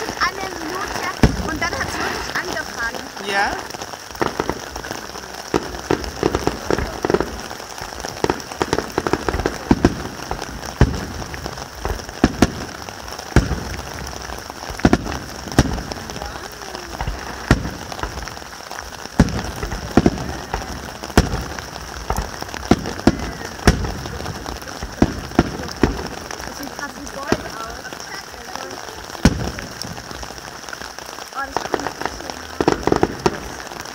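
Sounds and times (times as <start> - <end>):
fireworks bursting with bangs: 0.0 - 33.9.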